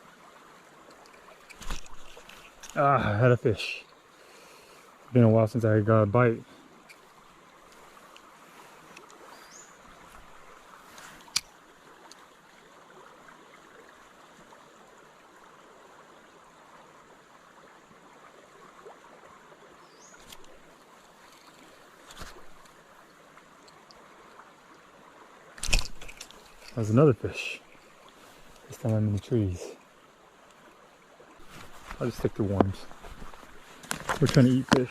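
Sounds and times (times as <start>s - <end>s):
creek water running: 0.0s - 34.9s.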